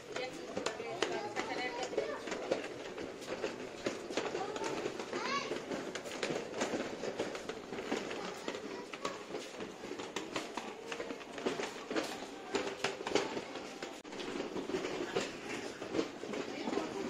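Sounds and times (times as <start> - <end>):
footsteps: 0.0 - 17.0
knocks and clatter: 0.0 - 17.0.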